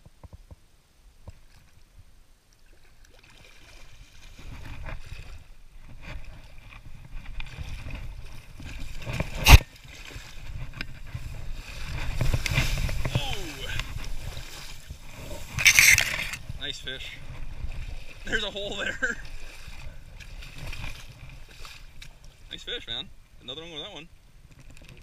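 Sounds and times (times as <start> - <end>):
water splashing and sloshing: 1.2 - 23.3.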